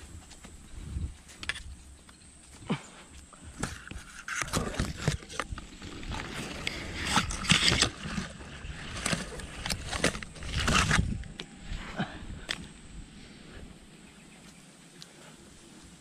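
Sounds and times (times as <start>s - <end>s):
leaves and twigs rustling: 0.0s - 16.0s.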